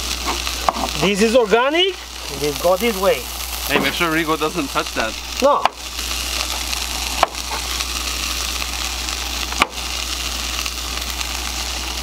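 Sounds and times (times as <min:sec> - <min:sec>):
burger patties sizzling in skillet: 0:00.0 - 0:12.0.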